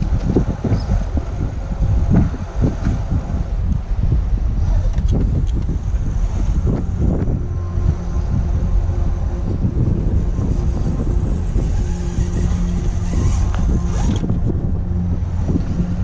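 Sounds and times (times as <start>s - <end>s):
electric motor whine: 0.0s - 16.0s
wind rumbling on microphone: 0.0s - 16.0s.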